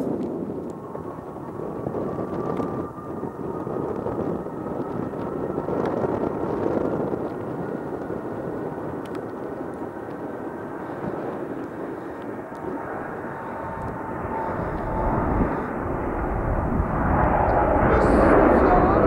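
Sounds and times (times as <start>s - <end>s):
deep rumble: 0.0s - 19.0s
jet engines at takeoff thrust: 0.0s - 19.0s.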